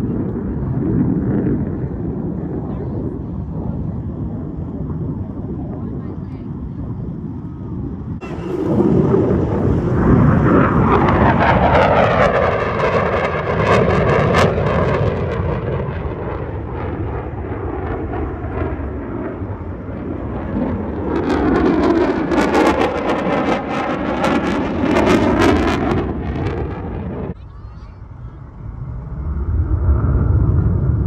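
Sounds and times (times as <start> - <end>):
aircraft approaching: 0.0 - 31.0
airplane flying past: 0.0 - 31.0.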